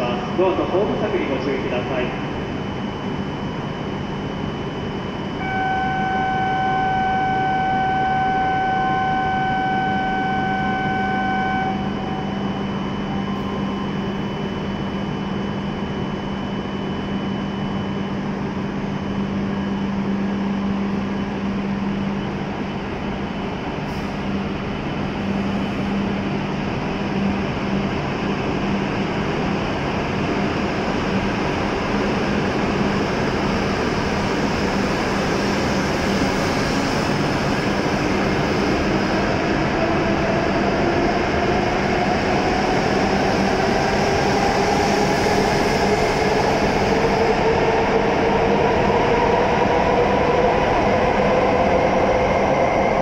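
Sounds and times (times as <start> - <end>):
train hum: 0.0 - 53.0.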